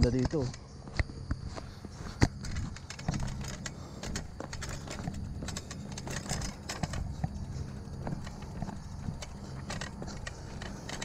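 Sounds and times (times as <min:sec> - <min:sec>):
bicycle clicks and rattles: 0:00.0 - 0:11.0
footsteps: 0:00.0 - 0:11.0
low steady hum: 0:00.0 - 0:11.0.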